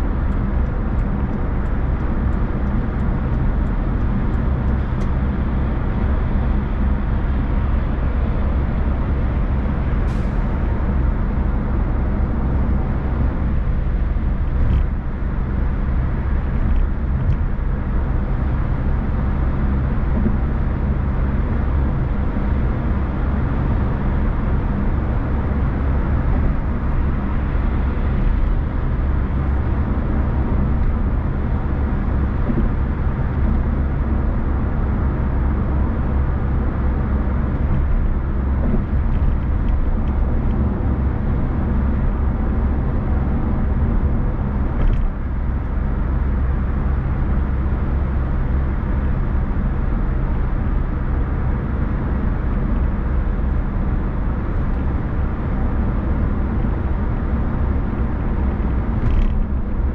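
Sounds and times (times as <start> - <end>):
car driving on road: 0.0 - 59.9.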